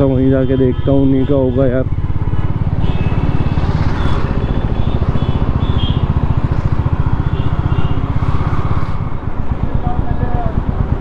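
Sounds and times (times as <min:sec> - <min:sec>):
motorcycle engine running: 0:01.1 - 0:11.0.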